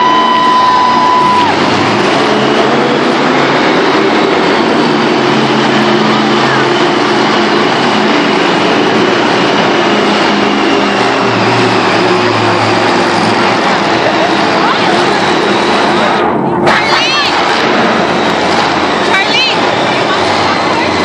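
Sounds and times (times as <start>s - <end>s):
monster truck engines running: 0.0s - 21.0s.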